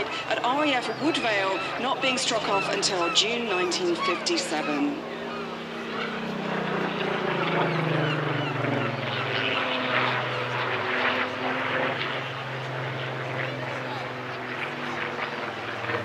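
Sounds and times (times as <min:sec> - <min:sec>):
propeller plane engine in flight: 0:00.0 - 0:16.0.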